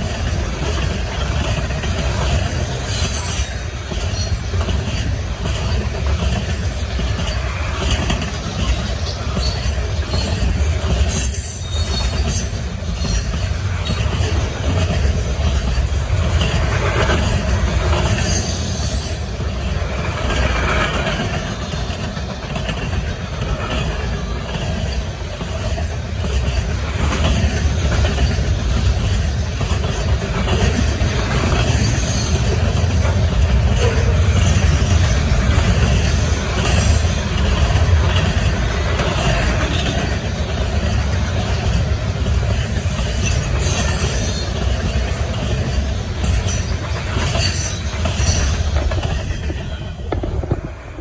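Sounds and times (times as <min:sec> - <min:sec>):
freight train wheels rumbling on rail: 0:00.0 - 0:51.0.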